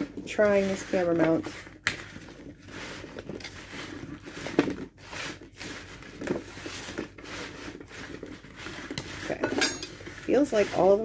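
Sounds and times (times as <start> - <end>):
hands tossing potatoes on a pan: 0.0 - 11.0.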